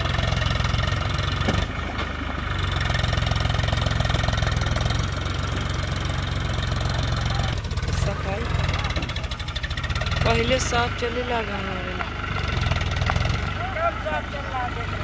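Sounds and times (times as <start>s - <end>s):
diesel tractor engine chugging: 0.0s - 15.0s.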